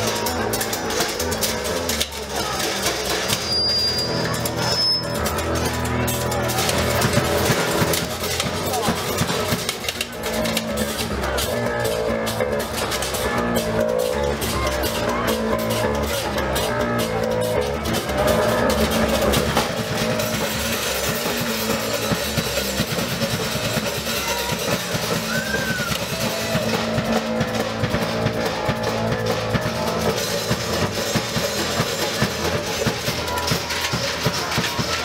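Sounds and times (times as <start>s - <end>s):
drum kit: 0.0s - 35.0s
live rock music: 0.0s - 35.0s.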